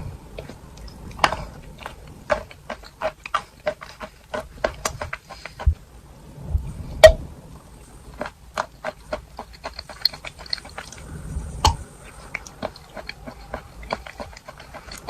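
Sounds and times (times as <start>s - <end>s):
wet sticky mouth sounds: 0.3s - 5.7s, 8.0s - 15.0s
chalk crunching between teeth: 0.4s - 5.7s, 8.0s - 15.0s.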